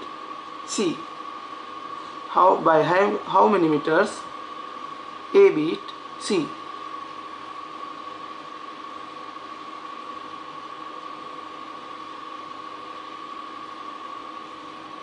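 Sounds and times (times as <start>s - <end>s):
constant high whine: 0.0s - 15.0s.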